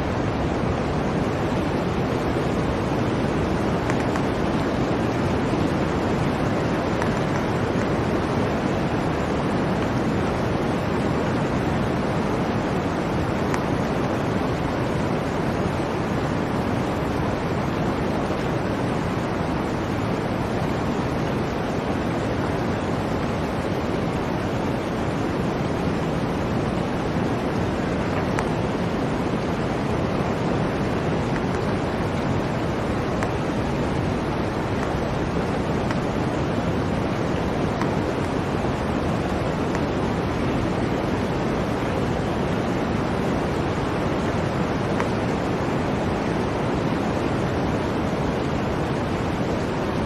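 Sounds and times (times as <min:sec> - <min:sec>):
blizzard wind blowing: 0:00.0 - 0:50.0.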